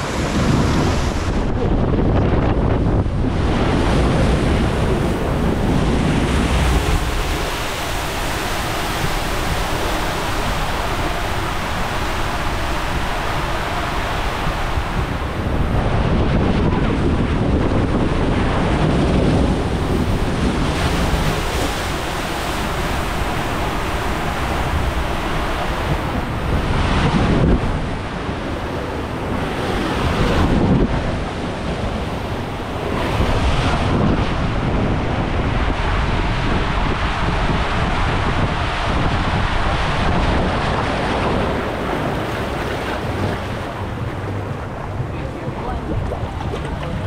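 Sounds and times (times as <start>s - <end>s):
water rushing along slide: 0.0s - 47.0s
wind buffeting microphone: 0.0s - 47.0s.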